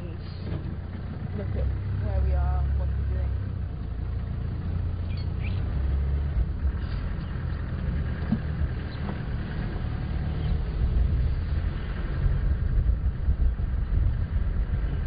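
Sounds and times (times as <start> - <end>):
vehicle rumbling on dirt: 0.0 - 15.0.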